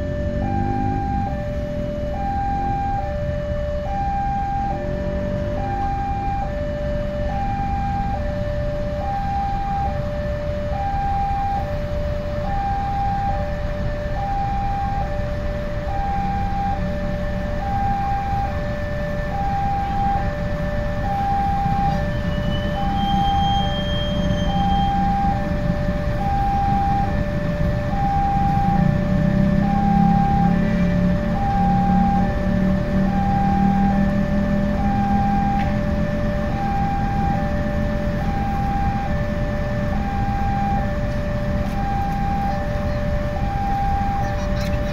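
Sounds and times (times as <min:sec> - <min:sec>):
diesel locomotive running: 0:00.0 - 0:44.9.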